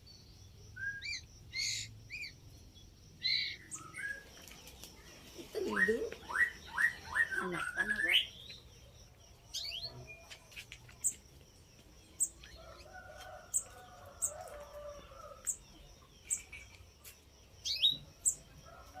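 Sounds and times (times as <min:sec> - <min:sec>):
bird chirping: 0:00.0 - 0:18.8.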